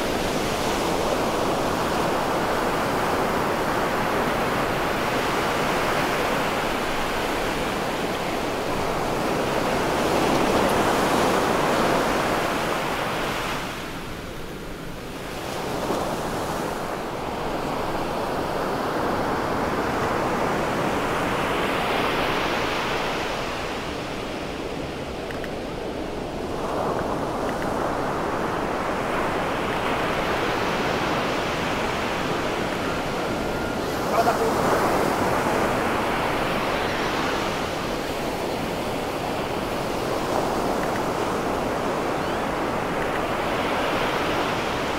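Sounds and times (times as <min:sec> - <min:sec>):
waves breaking on sand: 0:00.0 - 0:44.9.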